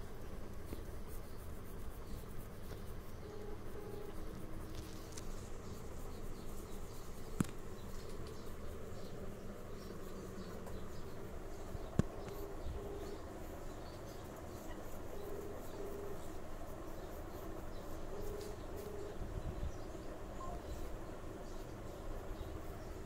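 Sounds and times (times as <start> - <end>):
background hum: 0.0 - 23.0.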